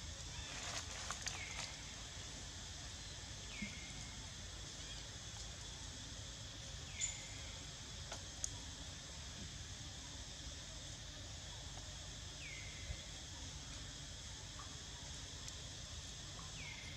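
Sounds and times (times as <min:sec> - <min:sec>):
insect chirring: 0:00.0 - 0:16.9.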